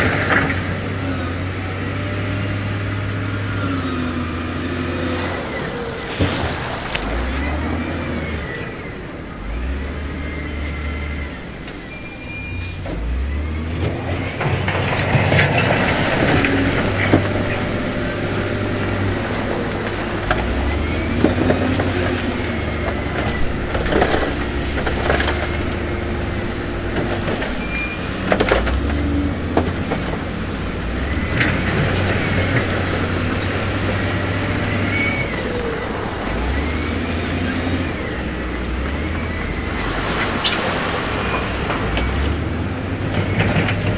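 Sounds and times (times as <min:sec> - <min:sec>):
heavy machinery diesel engines: 0:00.0 - 0:43.9
metallic clanks and squeals: 0:00.0 - 0:43.9.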